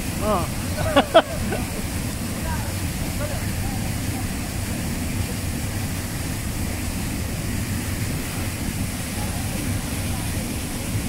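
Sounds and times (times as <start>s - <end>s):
river cascade rushing: 0.0s - 11.0s.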